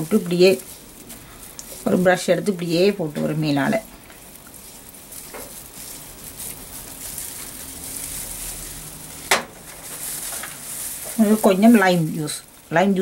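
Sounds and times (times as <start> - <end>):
pastry brush rustling on fish: 0.0 - 13.0.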